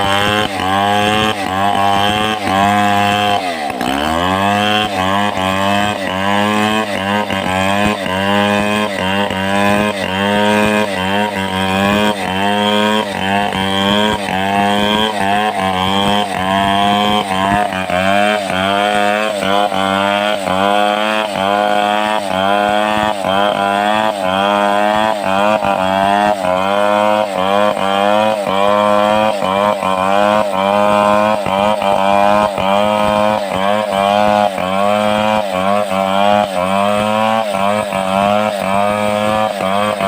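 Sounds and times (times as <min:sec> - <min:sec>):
chainsaw cutting log: 0:00.0 - 0:40.0.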